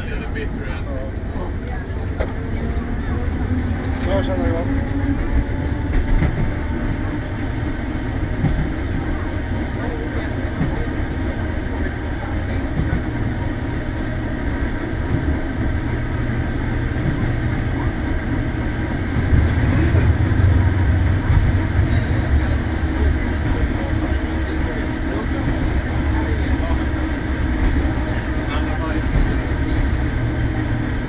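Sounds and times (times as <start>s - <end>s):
tram wheels rumbling on rails: 0.0s - 31.0s.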